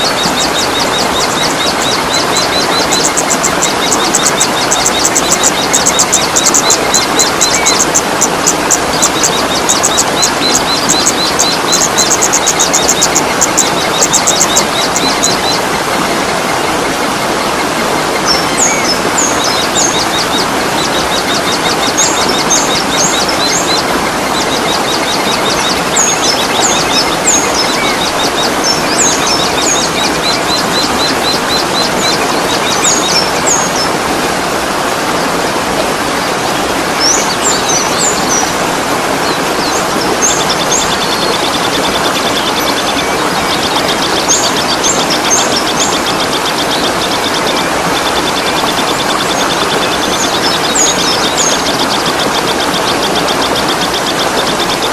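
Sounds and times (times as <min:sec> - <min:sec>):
songbirds chirping: 0:00.0 - 0:54.9
waterfall rushing: 0:00.0 - 0:54.9.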